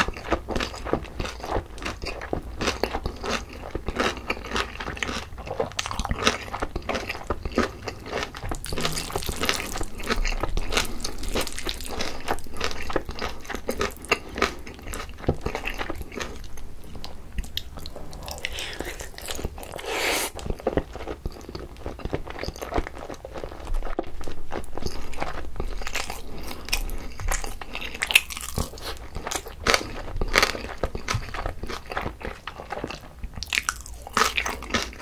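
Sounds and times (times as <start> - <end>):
close chewing with wet clicks: 0.0 - 35.0.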